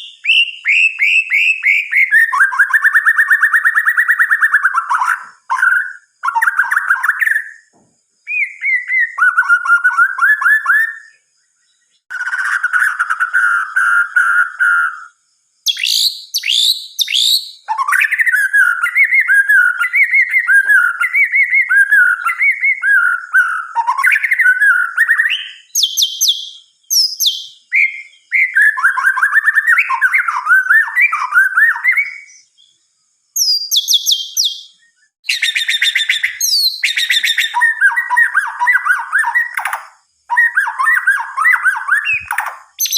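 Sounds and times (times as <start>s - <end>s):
bird singing whistled phrases: 0.0s - 42.9s.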